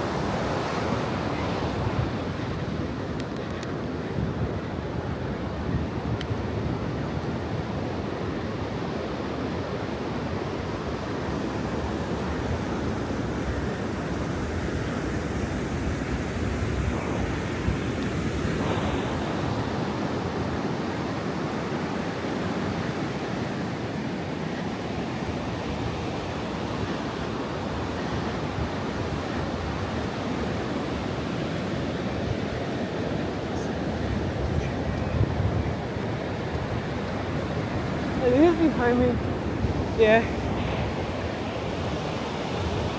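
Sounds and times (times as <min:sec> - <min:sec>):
ocean surf washing on beach: 0:00.0 - 0:42.9
wind buffeting microphone: 0:00.0 - 0:42.9.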